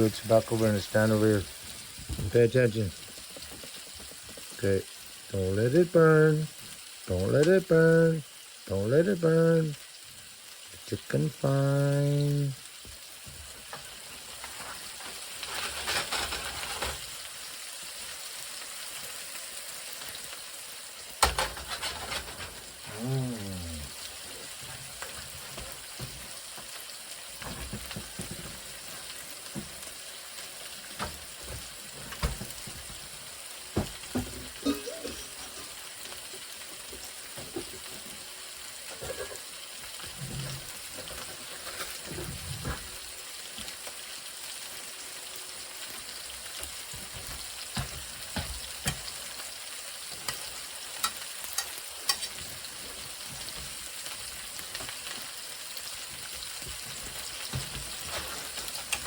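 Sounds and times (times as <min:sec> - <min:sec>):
chicken sizzling in a pan: 0:00.0 - 0:59.0.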